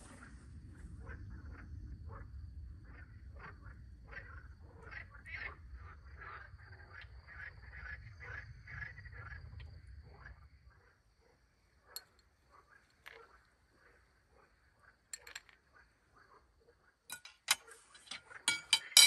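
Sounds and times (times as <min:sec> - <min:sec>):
frogs croaking: 0:00.0 - 0:19.0.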